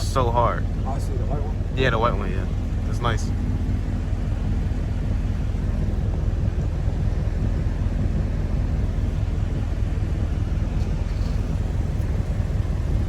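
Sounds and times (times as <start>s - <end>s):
car engine droning while cruising: 0.0s - 13.0s.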